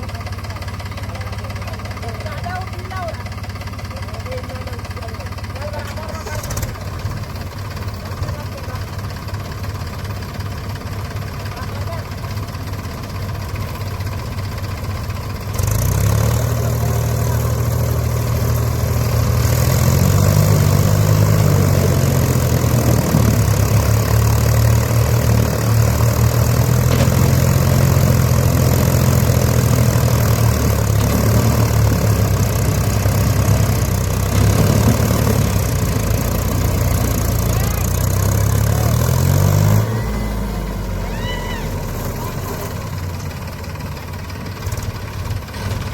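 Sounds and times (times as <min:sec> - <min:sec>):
tractor engine revving: 0:00.0 - 0:45.9.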